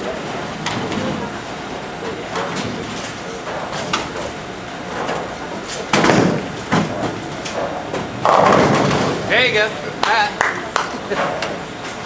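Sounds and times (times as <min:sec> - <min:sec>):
bowling ball rolling: 0:00.0 - 0:12.0
bowling pins crashing: 0:00.0 - 0:12.0.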